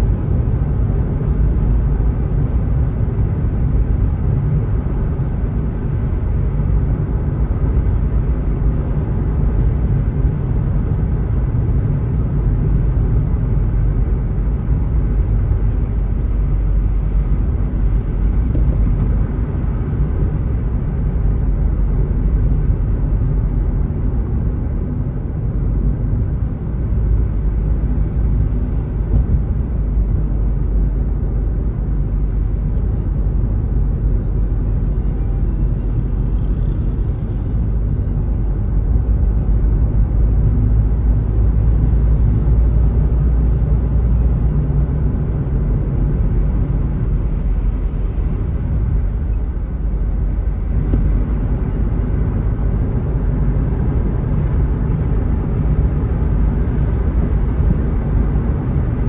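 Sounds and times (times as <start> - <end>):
car engine: 0.0 - 59.0
tyre and road noise: 0.0 - 59.0.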